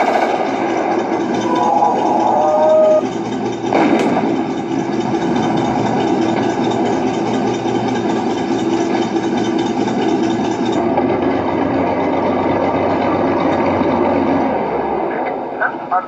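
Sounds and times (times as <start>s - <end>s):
tank engine idling: 0.0s - 16.0s.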